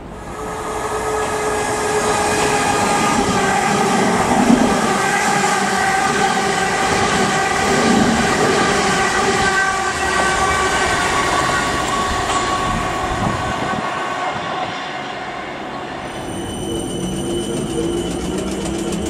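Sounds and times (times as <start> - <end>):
electric train whine: 0.0 - 19.0
train wheels rumbling on rails: 0.0 - 19.0.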